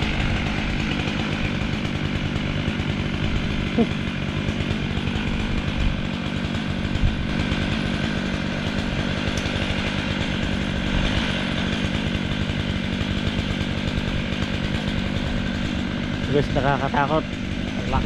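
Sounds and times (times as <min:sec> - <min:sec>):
chainsaw cutting tree trunk: 0:00.0 - 0:18.0.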